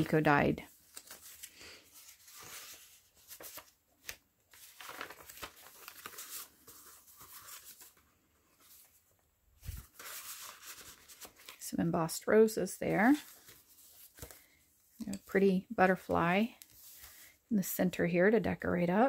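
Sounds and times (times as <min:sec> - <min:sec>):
paper pages rustling: 0:00.0 - 0:11.7, 0:12.9 - 0:17.4.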